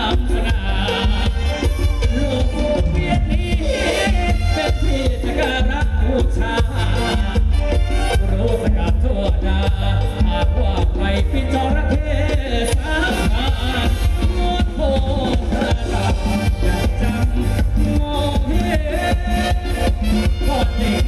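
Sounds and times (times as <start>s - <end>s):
live band dance music: 0.0s - 21.0s.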